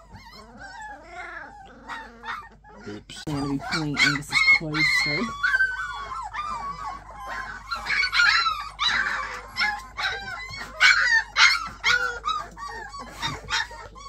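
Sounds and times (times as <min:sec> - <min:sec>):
puppies yipping and squealing: 0:00.0 - 0:14.0.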